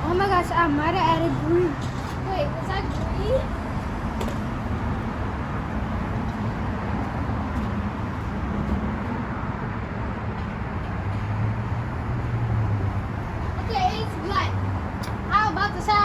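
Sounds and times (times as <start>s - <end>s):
vehicle traffic rumble: 0.0s - 16.0s.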